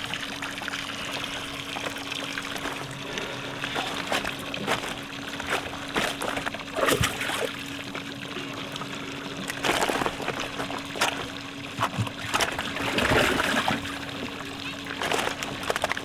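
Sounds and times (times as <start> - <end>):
faint steady hum: 0.0 - 16.0
water splashing and trickling: 0.0 - 16.0.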